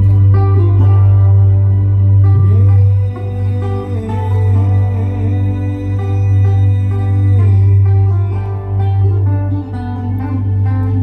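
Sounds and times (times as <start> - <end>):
loud music with heavy bass: 0.0 - 11.0
plucked-string melody: 0.0 - 11.0.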